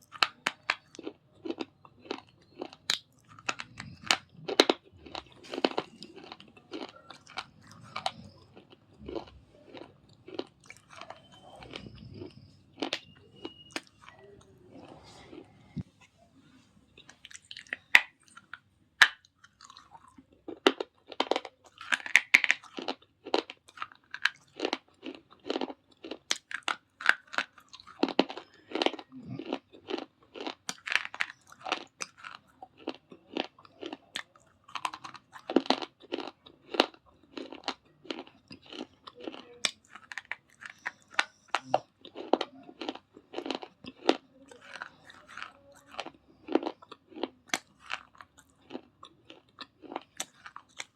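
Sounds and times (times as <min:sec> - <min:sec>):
chewing hard clay crunches: 0:00.0 - 0:15.9, 0:17.0 - 0:50.9.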